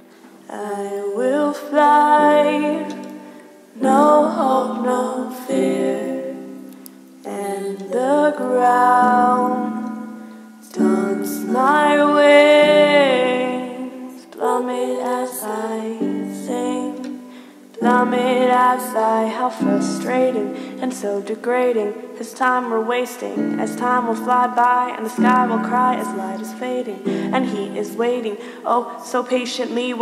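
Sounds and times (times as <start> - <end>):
woman singing: 0.0 - 30.0.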